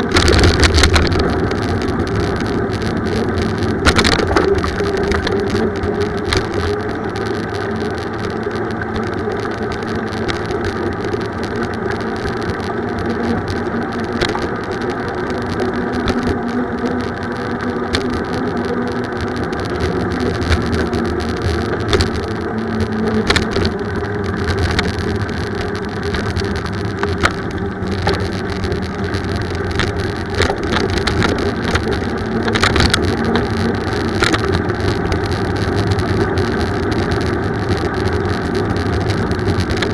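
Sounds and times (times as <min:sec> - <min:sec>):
bicycle road noise rumbling: 0:00.0 - 0:39.9
sharp clicks and rattles: 0:00.0 - 0:39.9.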